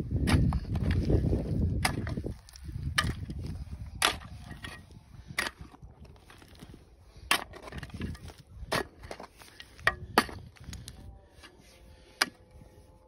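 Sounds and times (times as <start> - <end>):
gritty rustle of soil: 0.0 - 13.0
shovel scraping stony soil: 0.0 - 13.0.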